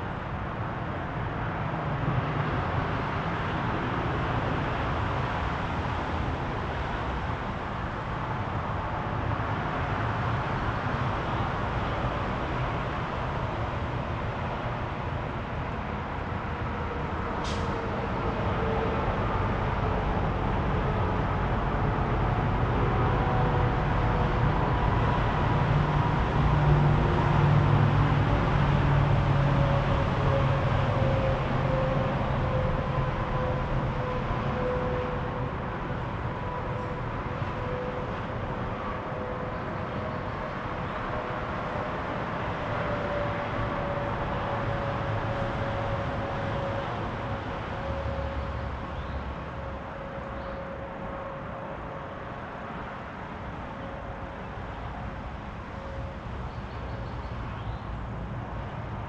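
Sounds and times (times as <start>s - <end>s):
road traffic: 0.0s - 59.0s
vehicle engine hum: 0.0s - 59.0s.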